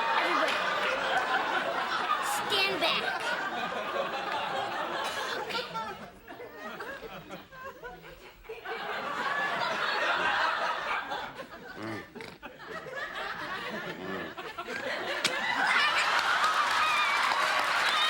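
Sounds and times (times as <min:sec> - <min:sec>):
audience laughing: 0:00.0 - 0:18.0.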